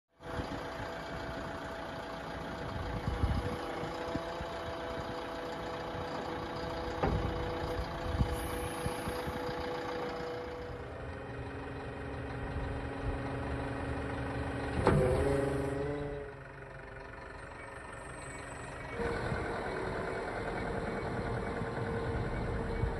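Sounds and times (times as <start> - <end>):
diesel engine running: 0.1 - 22.9.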